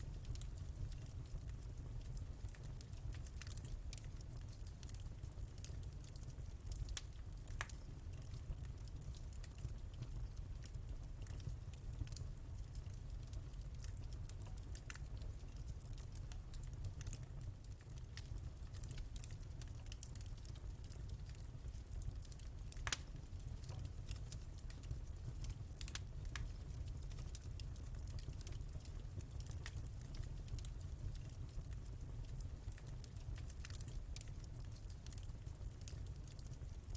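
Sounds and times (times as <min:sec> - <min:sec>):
fire popping: 0:00.0 - 0:36.9
wood fire crackling: 0:00.0 - 0:36.9.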